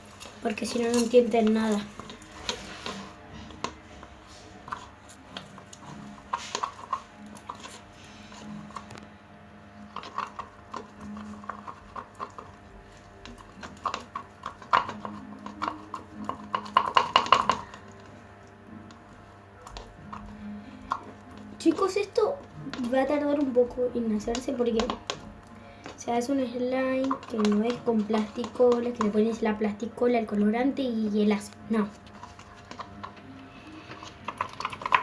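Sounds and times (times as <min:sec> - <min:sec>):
quiet background music: 0:00.0 - 0:35.0.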